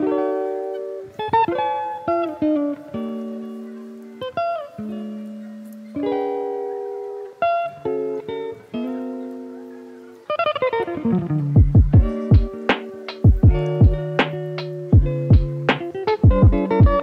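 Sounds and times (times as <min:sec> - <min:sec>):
slow plucked guitar: 0:00.0 - 0:17.0.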